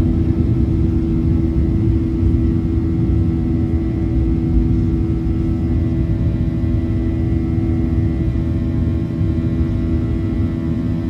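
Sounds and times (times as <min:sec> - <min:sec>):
jet engine buzzsaw drone: 0:00.0 - 0:11.0.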